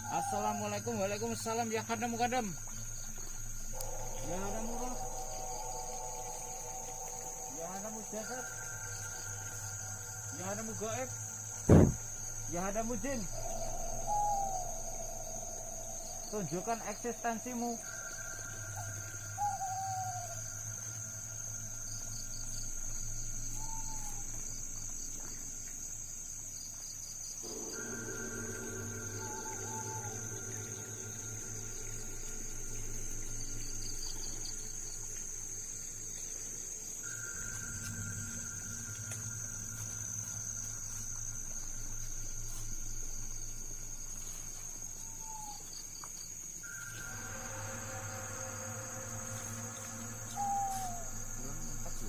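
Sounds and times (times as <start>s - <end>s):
low steady hum: 0.0s - 26.6s, 27.4s - 45.4s
crickets trilling: 0.0s - 52.0s
quick insect chirps: 0.0s - 52.0s.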